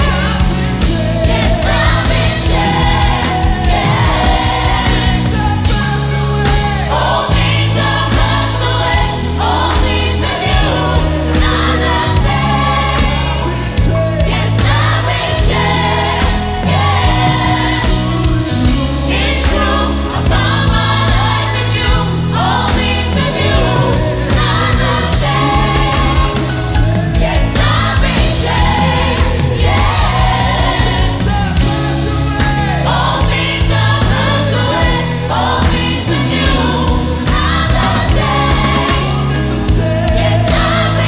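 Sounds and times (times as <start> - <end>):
bass line: 0.0 - 41.0
drums: 0.0 - 41.0
gospel choir singing: 0.0 - 41.0.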